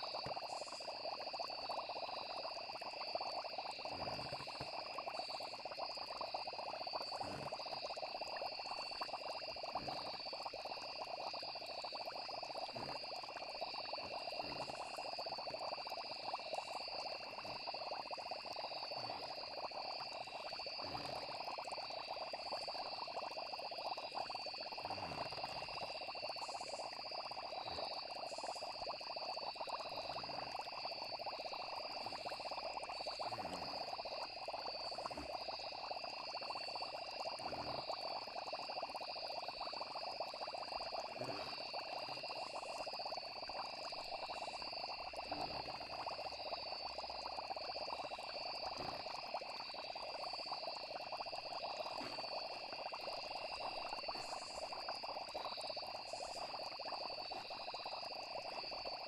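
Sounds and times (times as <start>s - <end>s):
crickets trilling: 0.0s - 59.0s
frog chorus: 0.0s - 59.0s.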